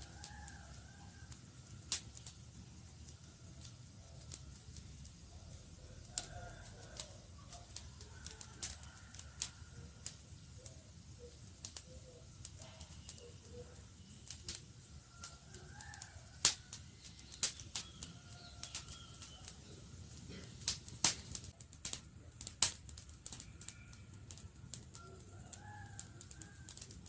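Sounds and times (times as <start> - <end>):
campfire crackling and popping: 0.0 - 27.0
low fire rumble: 0.0 - 27.0.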